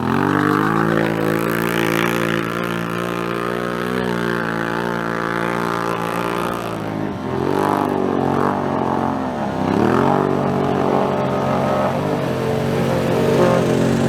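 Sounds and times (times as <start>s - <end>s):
utility vehicle engine revving: 0.0s - 14.0s.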